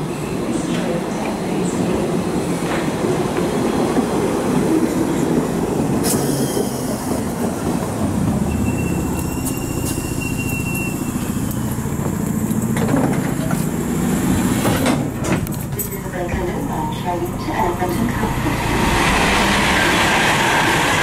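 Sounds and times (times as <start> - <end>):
train wheels and motors rumbling: 0.0 - 21.0.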